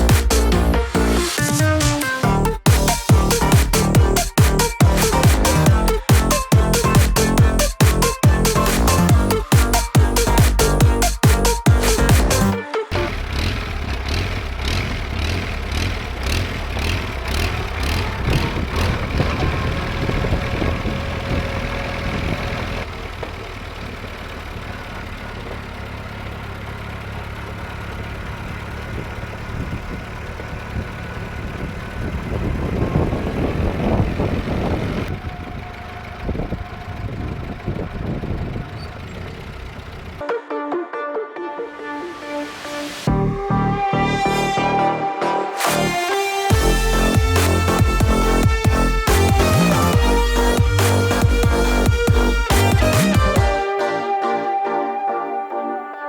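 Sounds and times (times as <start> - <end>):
tractor engine running: 0.0 - 40.3, 45.8 - 53.8.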